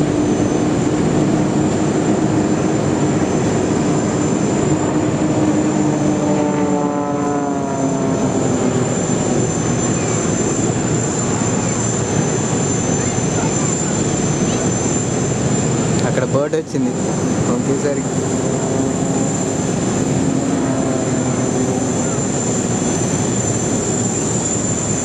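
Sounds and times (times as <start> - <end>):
broad rushing noise: 0.0 - 25.0
propeller planes droning overhead: 0.0 - 25.0.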